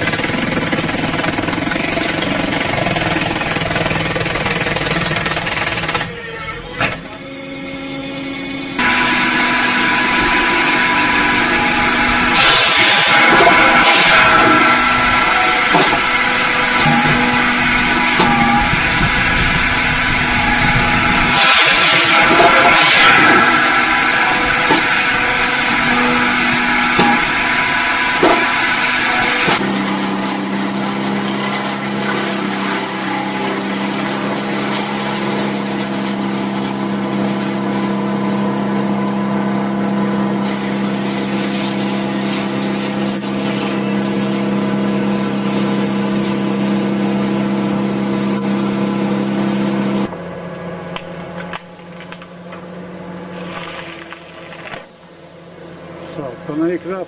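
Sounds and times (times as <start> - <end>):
tree-cutting machine engine running: 0.0 - 57.0.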